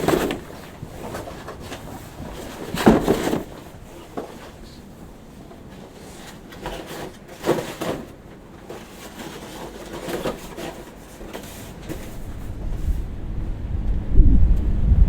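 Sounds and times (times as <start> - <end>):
objects knocking and scraping: 0.0 - 13.3.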